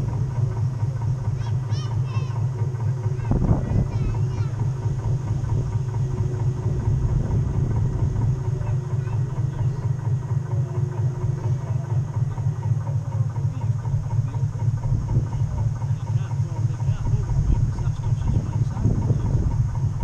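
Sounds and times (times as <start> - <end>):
model boat motor humming: 0.0 - 20.0.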